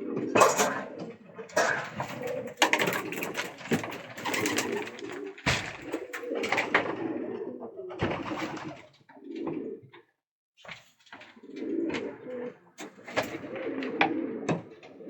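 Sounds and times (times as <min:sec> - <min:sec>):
pigeons cooing: 0:00.0 - 0:10.1, 0:11.0 - 0:15.0.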